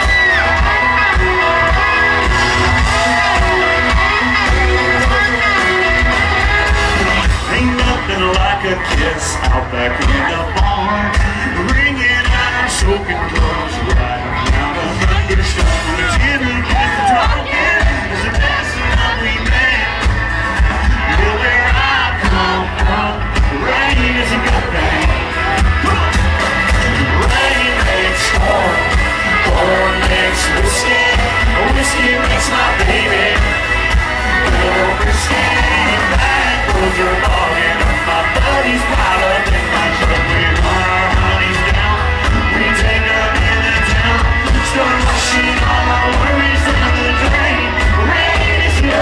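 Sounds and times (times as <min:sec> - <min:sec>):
crowd noise: 0:00.0 - 0:49.0
heavy pulsing bass: 0:00.0 - 0:49.0
live country band playing: 0:00.0 - 0:49.0
person singing: 0:00.0 - 0:49.0.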